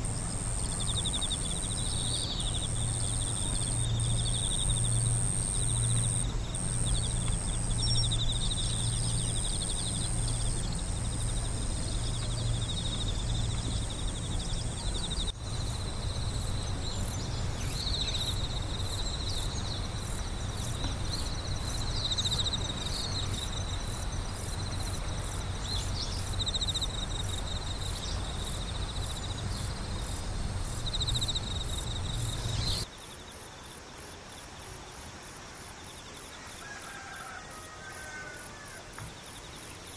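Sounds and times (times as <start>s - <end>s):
low steady hum: 0.0s - 32.9s
crickets trilling: 0.0s - 39.9s
insects ticking pulse: 0.0s - 39.9s.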